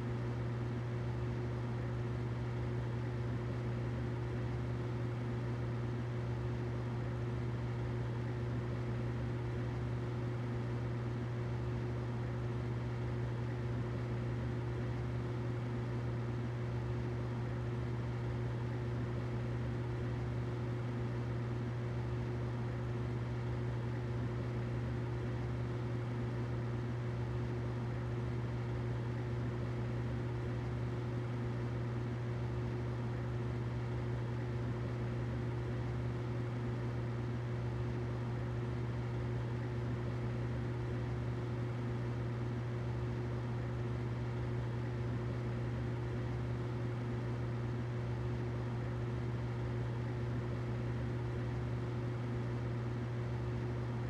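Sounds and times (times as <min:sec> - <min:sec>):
humidifier humming and hissing: 0:00.0 - 0:54.0.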